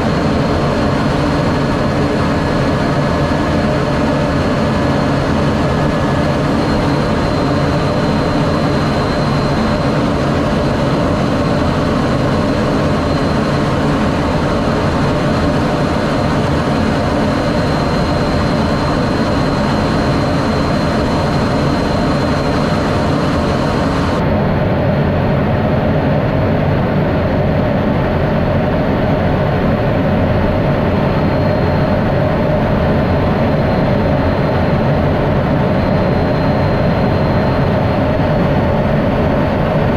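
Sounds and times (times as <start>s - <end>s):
thin high whine: 0.0s - 24.4s, 30.2s - 39.1s
fighter jet engine roar: 0.0s - 39.9s.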